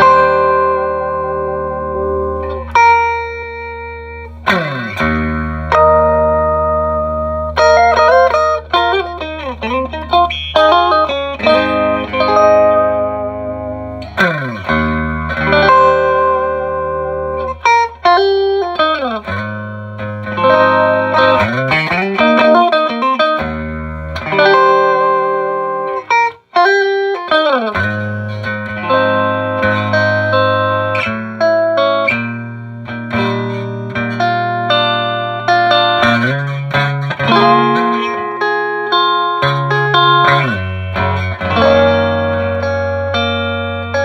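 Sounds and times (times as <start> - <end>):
electric guitar through amplifier: 0.0 - 44.0.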